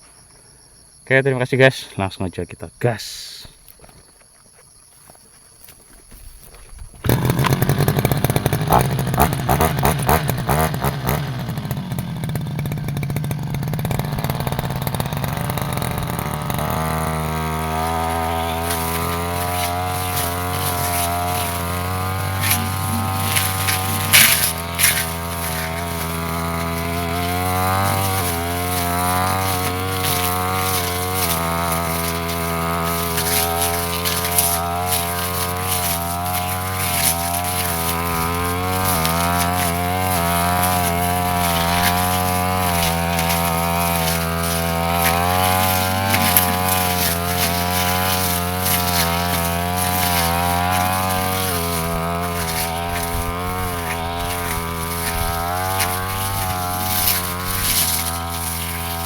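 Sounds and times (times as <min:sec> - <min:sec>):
brush cutter engine cutting grass: 0:04.9 - 0:59.0.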